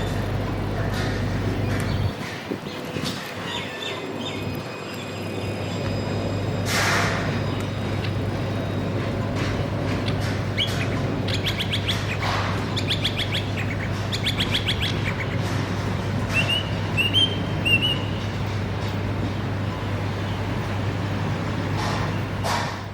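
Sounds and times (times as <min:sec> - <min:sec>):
small birds chirping: 0:00.0 - 0:19.0
steady low hum: 0:00.0 - 0:22.9.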